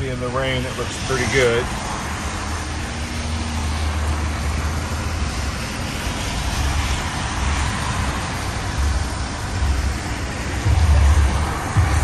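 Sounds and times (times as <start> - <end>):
tyres hissing on wet pavement: 0.0 - 12.0.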